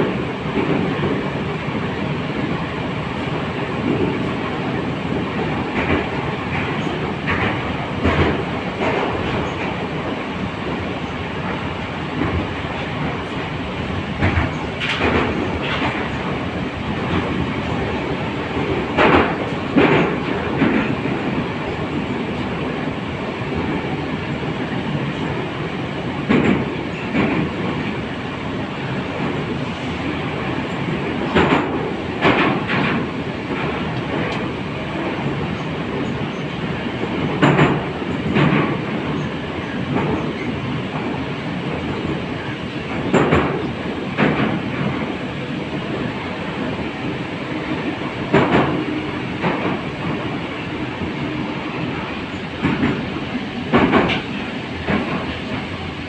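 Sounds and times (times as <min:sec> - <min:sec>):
metro car wheels rumbling: 0:00.0 - 0:56.0
wheels clacking on track: 0:03.2 - 0:28.1, 0:28.8 - 0:55.9.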